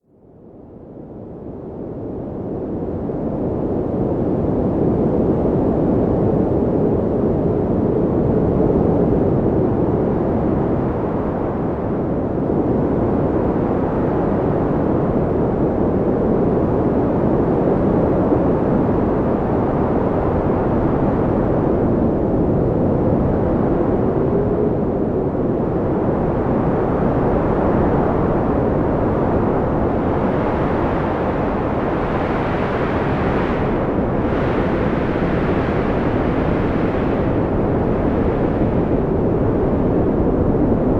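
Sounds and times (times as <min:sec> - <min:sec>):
blizzard wind howling: 0:00.4 - 0:40.9
faint whistling wind tone: 0:07.8 - 0:40.9.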